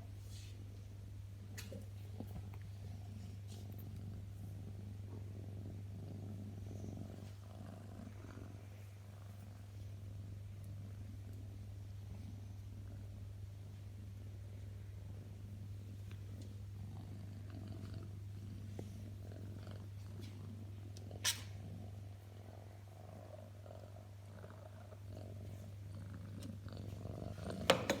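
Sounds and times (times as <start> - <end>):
cat purring: 0.3 - 28.0.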